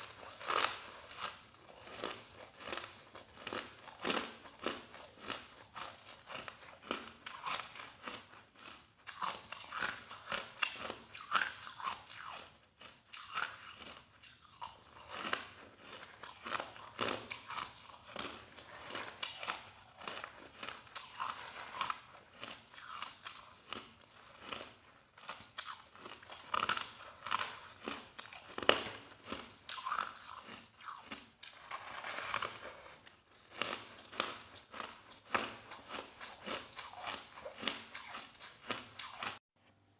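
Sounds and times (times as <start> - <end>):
crushed ice being chewed: 0.0 - 39.4.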